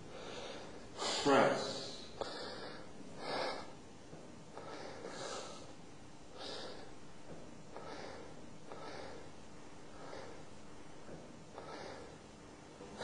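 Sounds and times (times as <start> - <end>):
heavy breathing: 0.0 - 3.8, 4.5 - 12.2.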